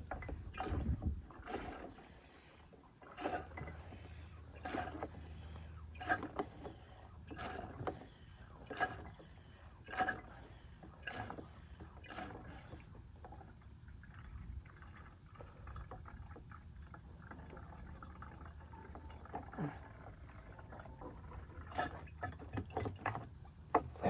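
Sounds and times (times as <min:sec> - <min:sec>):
fuel trickling into a container: 0:00.0 - 0:23.7.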